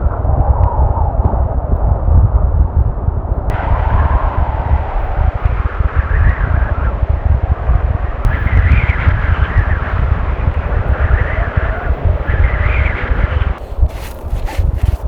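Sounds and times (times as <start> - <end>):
strong wind gusting: 0.0 - 15.0
wind buffeting microphone: 0.0 - 15.0.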